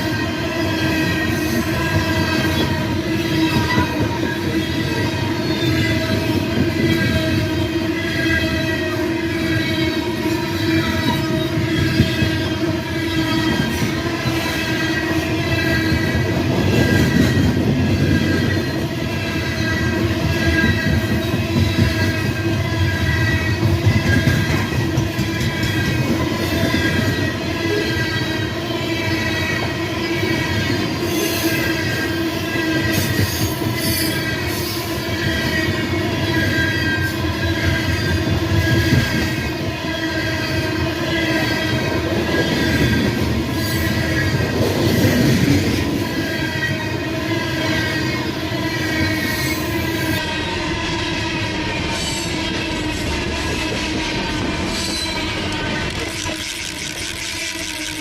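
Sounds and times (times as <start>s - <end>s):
steel wheels squealing: 0.0s - 58.0s
train wheels rumbling and clattering: 0.0s - 58.0s.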